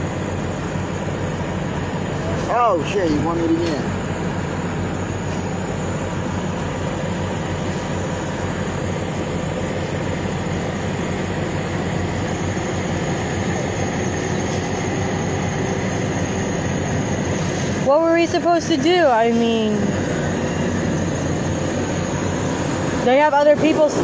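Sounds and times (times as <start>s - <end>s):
vehicle rumble and hiss: 0.0s - 24.0s.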